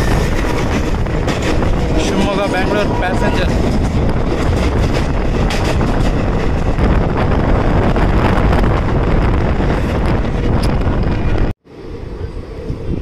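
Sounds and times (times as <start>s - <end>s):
train wheels rumbling and clattering: 0.0s - 11.6s
rush of wind: 0.0s - 13.0s
wind buffeting microphone: 0.0s - 13.0s.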